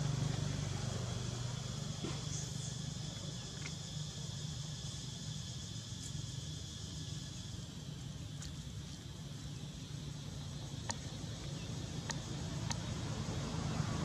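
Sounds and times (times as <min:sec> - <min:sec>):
constant low hum: 0:00.0 - 0:14.0
high insect drone: 0:00.0 - 0:14.0.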